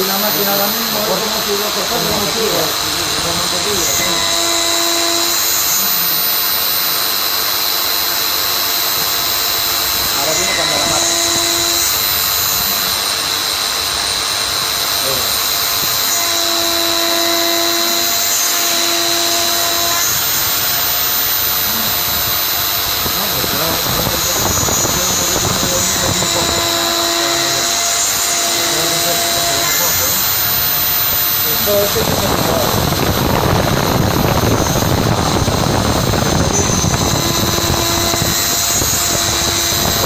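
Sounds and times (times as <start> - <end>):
low hum with overtones: 0.0 - 40.0
milling machine spindle whine: 0.0 - 40.0.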